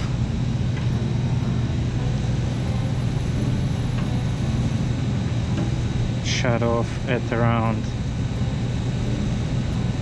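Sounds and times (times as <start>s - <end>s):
refrigeration equipment humming: 0.0s - 10.0s.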